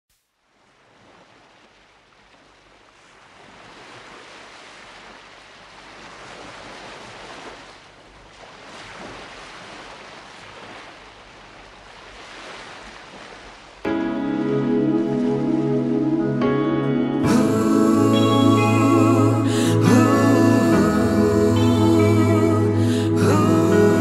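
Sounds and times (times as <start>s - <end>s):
ocean surf on sandy beach: 0.5s - 24.0s.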